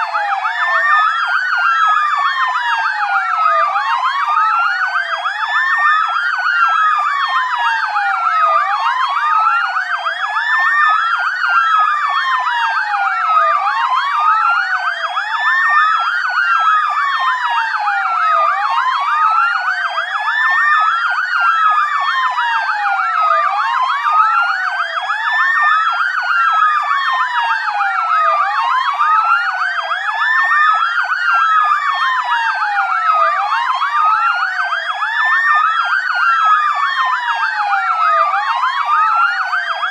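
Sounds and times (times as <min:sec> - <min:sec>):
police sirens wailing: 0:00.0 - 0:39.9.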